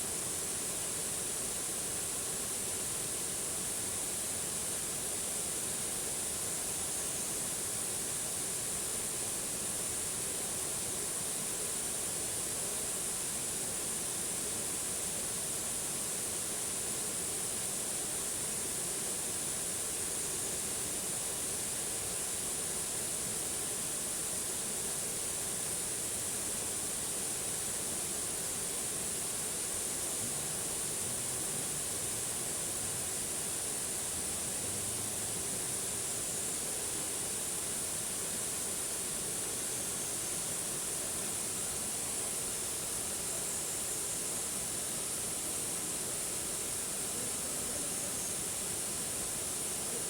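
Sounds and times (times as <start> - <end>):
waterfall hiss: 0.0 - 50.0.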